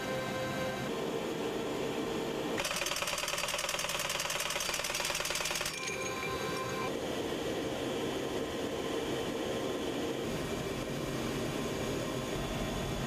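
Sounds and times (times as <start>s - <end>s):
helicopter mechanical hum: 0.0s - 13.0s
low helicopter rumble: 0.0s - 13.0s.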